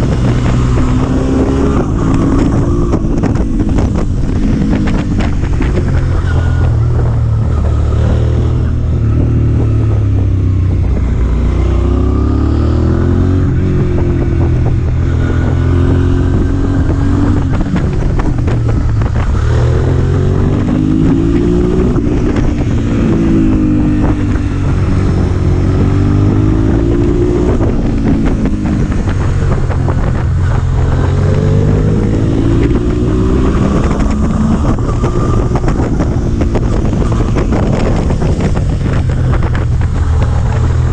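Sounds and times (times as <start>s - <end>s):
motorcycle engine accelerating: 0.0s - 40.9s
wind rushing over microphone: 0.0s - 40.9s.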